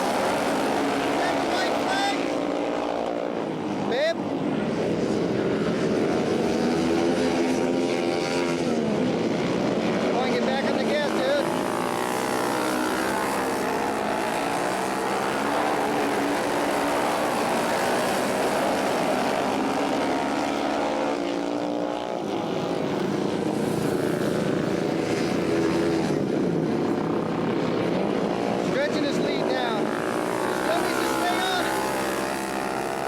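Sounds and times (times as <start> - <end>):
racing motorcycle engines: 0.0 - 33.0.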